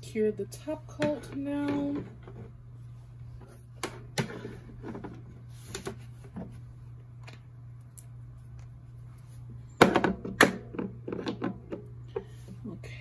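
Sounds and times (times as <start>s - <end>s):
nail lamp low hum: 0.0s - 13.0s.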